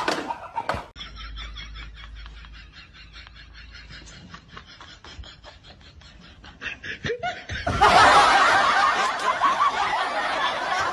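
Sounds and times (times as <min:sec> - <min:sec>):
loud laughter: 0:00.0 - 0:10.9.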